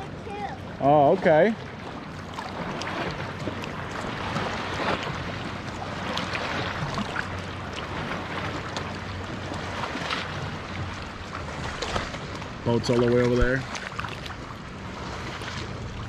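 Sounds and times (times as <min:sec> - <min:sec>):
water lapping and sloshing: 0:00.0 - 0:16.0
water splashes close to microphone: 0:00.0 - 0:16.0.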